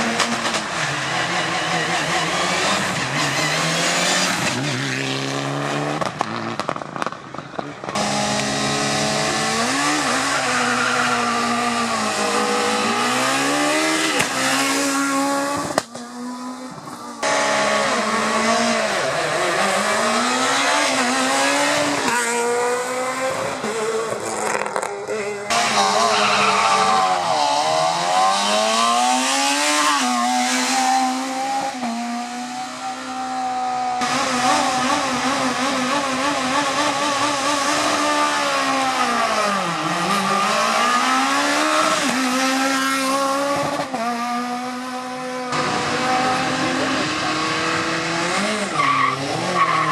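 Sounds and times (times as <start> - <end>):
rally car engines revving: 0.0 - 49.9.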